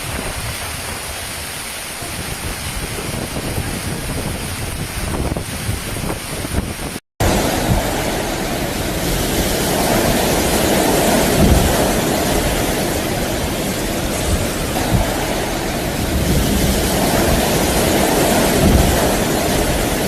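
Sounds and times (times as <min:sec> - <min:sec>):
hail and wind storm: 0:00.0 - 0:20.0
wind buffeting microphone: 0:00.0 - 0:20.0.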